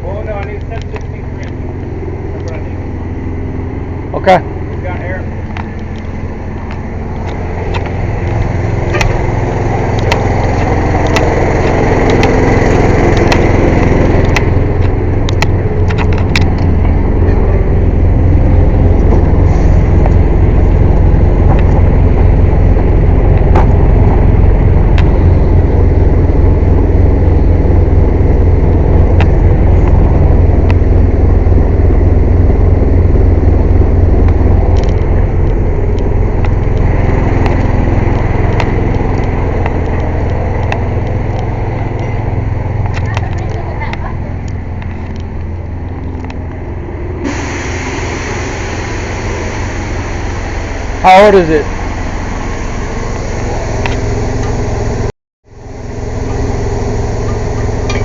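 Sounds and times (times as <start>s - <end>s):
air compressor running: 0.0s - 43.8s, 46.5s - 58.0s.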